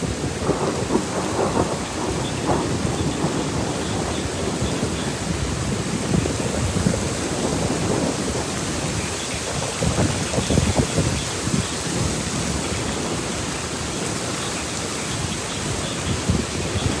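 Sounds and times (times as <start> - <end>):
low thunder rumbling: 0.0 - 14.3
gusty wind: 0.0 - 17.0
heavy rain: 0.0 - 17.0.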